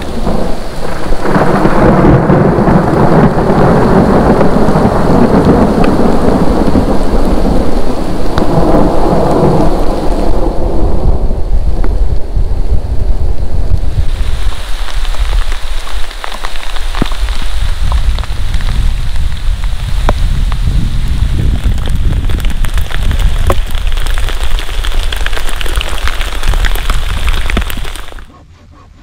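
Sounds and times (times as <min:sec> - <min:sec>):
heavy rain falling: 0:00.0 - 0:28.3
raindrops ticking close by: 0:00.0 - 0:28.3
steady low rumble: 0:00.0 - 0:29.0.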